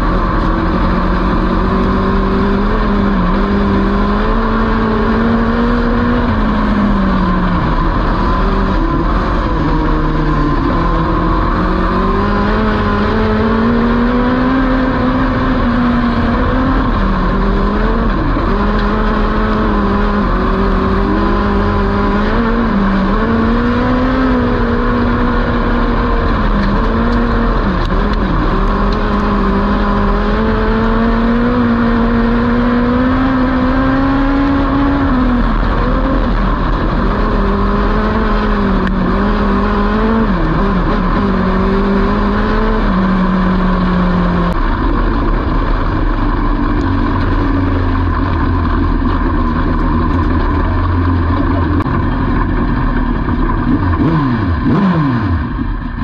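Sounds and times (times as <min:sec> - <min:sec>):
racing car engine: 0:00.0 - 0:56.0.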